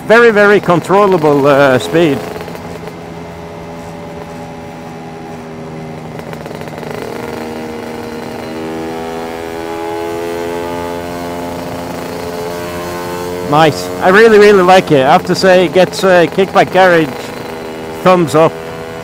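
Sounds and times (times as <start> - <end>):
scooter engine cruising: 0.0 - 19.0.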